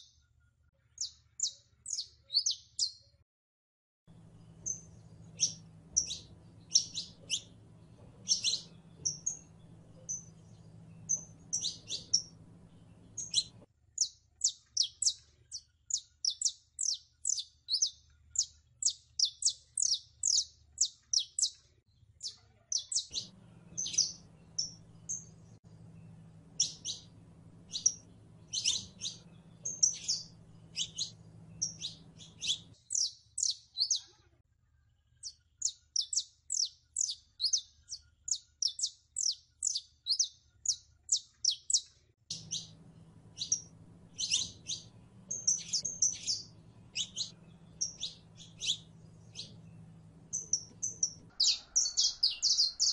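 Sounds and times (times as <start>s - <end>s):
finch singing: 1.0s - 3.0s, 4.3s - 21.6s, 22.2s - 34.1s, 35.2s - 52.9s.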